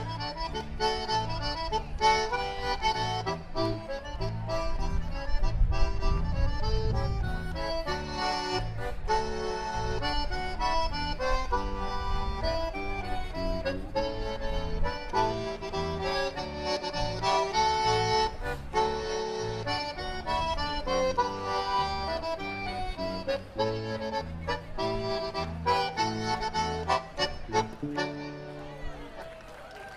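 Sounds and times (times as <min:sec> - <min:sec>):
concertina polka melody: 0:00.0 - 0:29.2.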